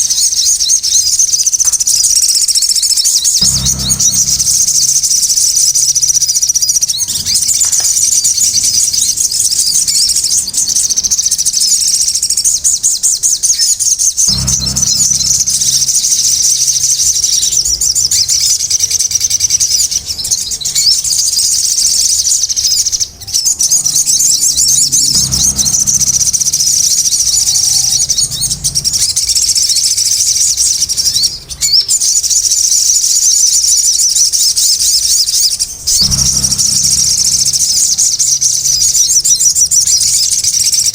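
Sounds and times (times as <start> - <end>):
bird twittering: 0.0 - 40.9.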